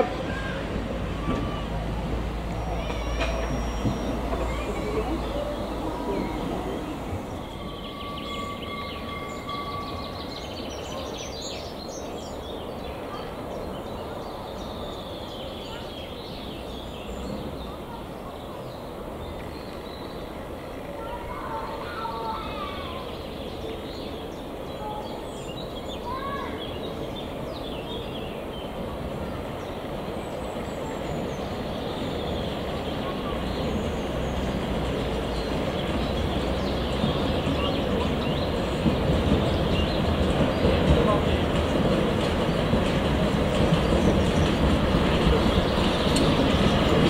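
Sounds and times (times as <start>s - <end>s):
distant steam locomotive rumble: 0.0s - 47.0s
songbirds chirping and whistling: 2.5s - 20.4s, 23.0s - 47.0s.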